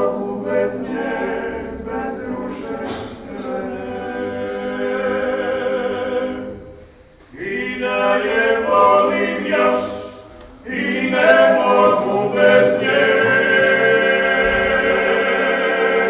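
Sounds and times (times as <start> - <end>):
vocal ensemble singing a cappella: 0.0 - 16.0.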